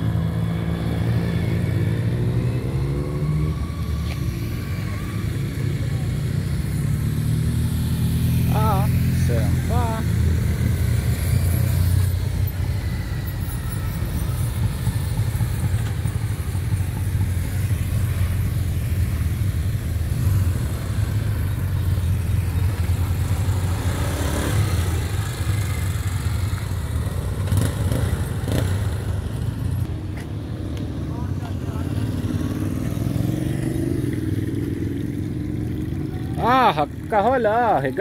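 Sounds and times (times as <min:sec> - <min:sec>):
motorcycles riding slowly past: 0:00.0 - 0:38.0.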